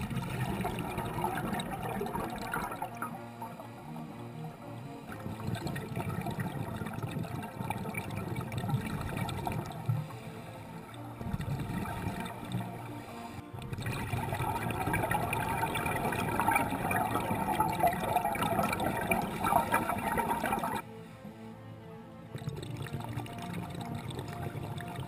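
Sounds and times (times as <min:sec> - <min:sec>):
scuba exhaust bubbles gurgling: 0:00.0 - 0:20.8, 0:22.3 - 0:25.0
slow background music: 0:00.0 - 0:25.0.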